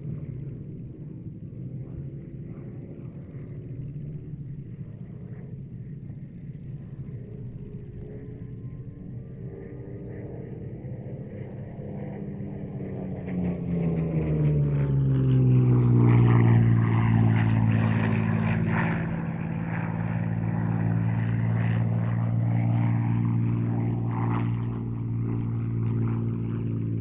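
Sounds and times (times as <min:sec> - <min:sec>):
aircraft engine flypast: 0:00.0 - 0:27.0.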